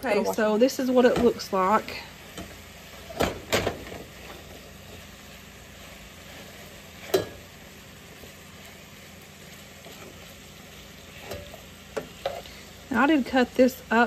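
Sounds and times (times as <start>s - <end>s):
meat sizzling in a skillet: 0.0s - 14.0s
wooden spatula scraping a pan: 1.0s - 13.0s.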